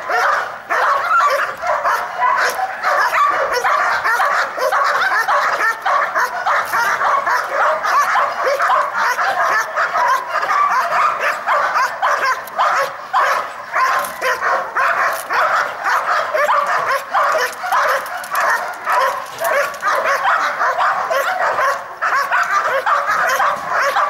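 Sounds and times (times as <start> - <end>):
dog barking rapidly: 0.0 - 24.0.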